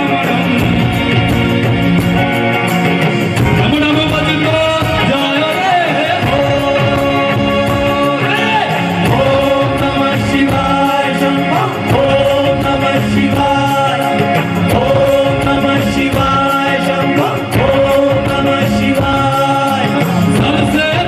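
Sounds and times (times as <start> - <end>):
band with drums: 0.0 - 21.0
male voices singing through pa: 3.6 - 21.0.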